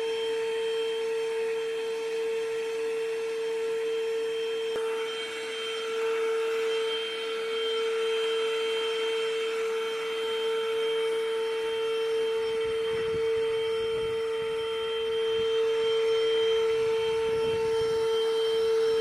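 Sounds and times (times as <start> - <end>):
carpet washer motor whine: 0.0 - 19.0.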